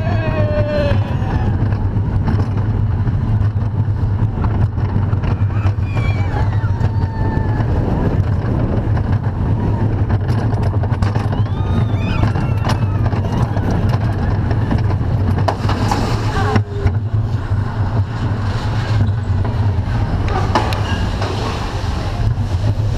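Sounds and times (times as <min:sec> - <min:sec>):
roller coaster wheels rumbling: 0:00.0 - 0:22.9.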